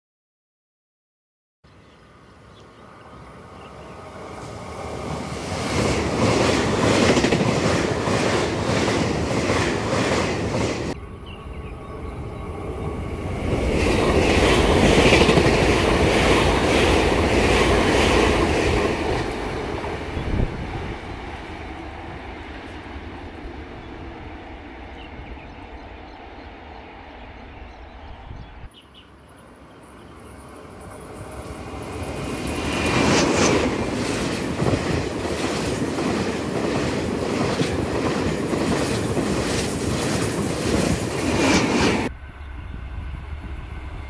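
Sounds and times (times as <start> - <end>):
train passing at speed: 2.1 - 44.0.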